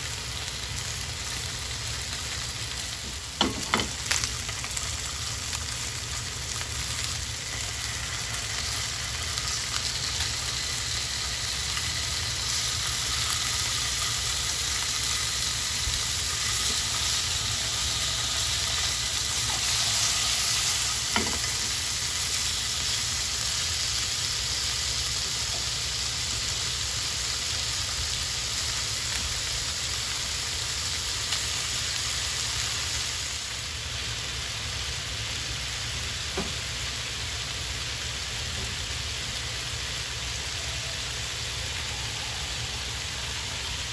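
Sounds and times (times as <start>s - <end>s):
chicken sizzling in a frying pan: 0.0s - 43.9s.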